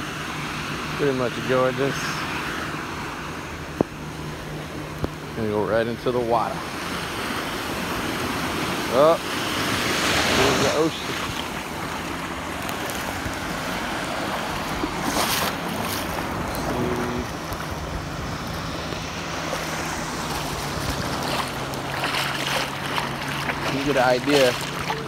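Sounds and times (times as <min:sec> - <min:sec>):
surf washing in shallow water: 0:00.0 - 0:25.0.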